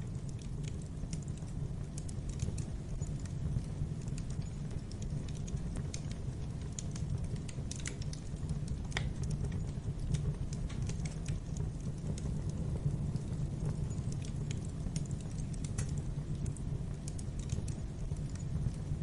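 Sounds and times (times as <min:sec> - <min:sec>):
low rumble of burning fire: 0:00.0 - 0:19.0
wood fire crackling and popping: 0:00.0 - 0:19.0.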